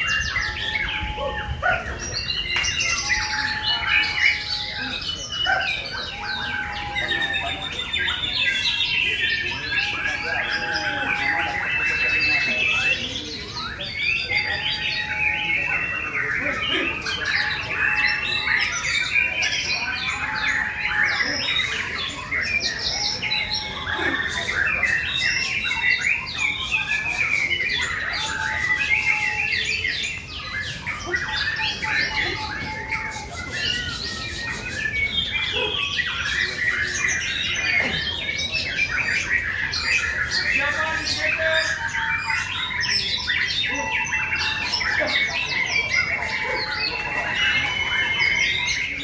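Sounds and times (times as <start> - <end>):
songbirds chorus: 0.0 - 49.0.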